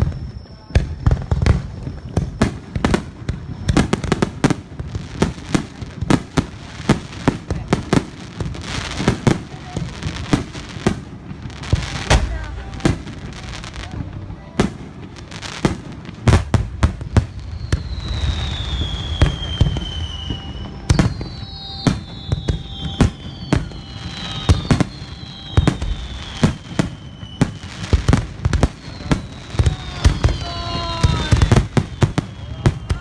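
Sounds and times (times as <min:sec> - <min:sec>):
fireworks bangs and crackles: 0:00.0 - 0:33.0
fireworks whistles falling in pitch: 0:00.0 - 0:33.0.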